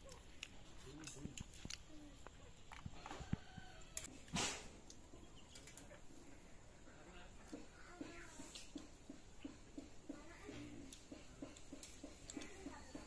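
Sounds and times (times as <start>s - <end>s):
chickens clucking: 2.2s - 13.0s.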